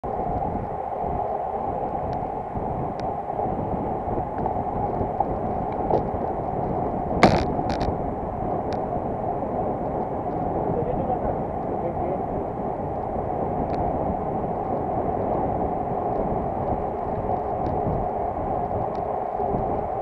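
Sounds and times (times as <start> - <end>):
bicycle tyre noise on asphalt: 0.0 - 20.0
wind rushing: 0.0 - 20.0.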